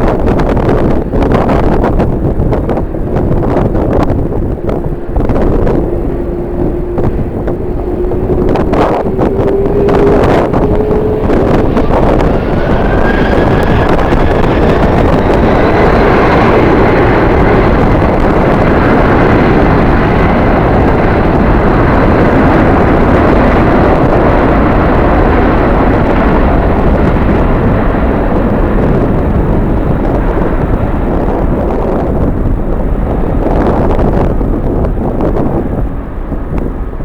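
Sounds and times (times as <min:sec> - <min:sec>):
jet engines roaring: 0:00.0 - 0:37.0
wind buffeting microphone: 0:00.0 - 0:37.0.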